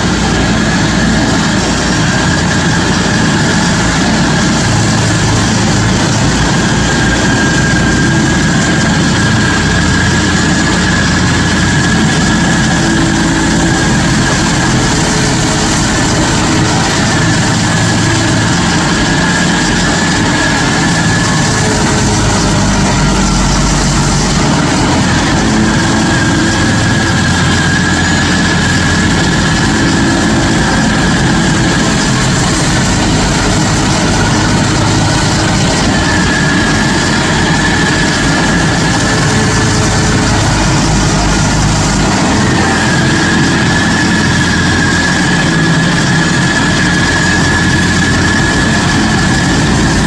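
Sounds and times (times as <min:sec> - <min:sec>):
stump grinder engine running: 0:00.0 - 0:50.0.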